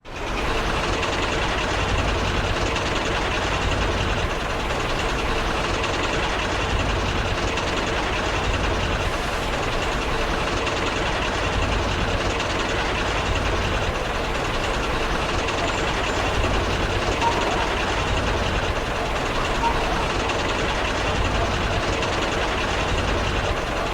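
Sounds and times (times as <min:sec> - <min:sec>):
diesel engine running: 0:00.1 - 0:23.9.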